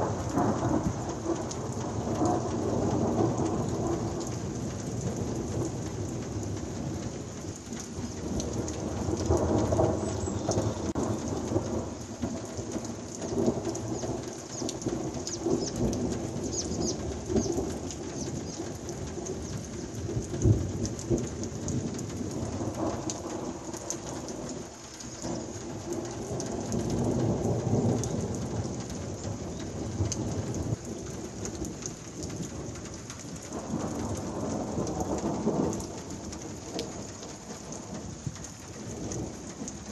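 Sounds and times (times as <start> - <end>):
heavy rain hissing: 0.0 - 39.9
thunder rumbling: 0.0 - 39.9.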